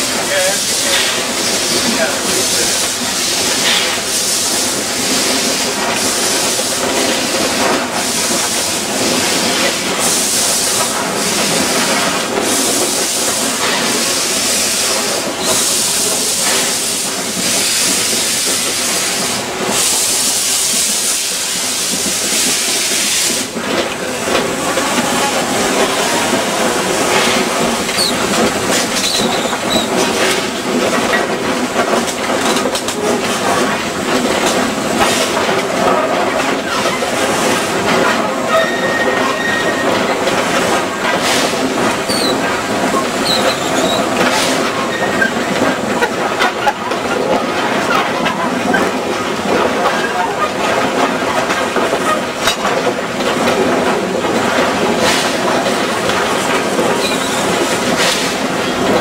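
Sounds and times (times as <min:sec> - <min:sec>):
steam hissing in pulses: 0:00.0 - 0:50.7
steam locomotive running on rails: 0:00.0 - 0:59.0.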